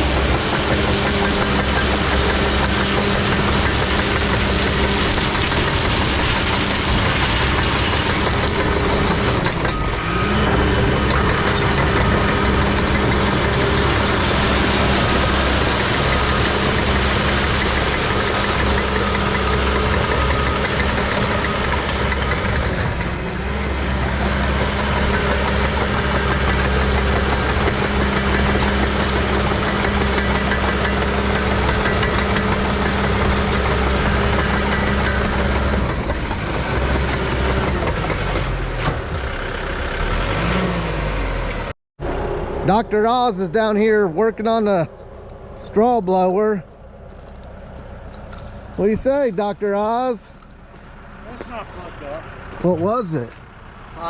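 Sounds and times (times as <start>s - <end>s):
blower engine droning: 0.0s - 54.0s.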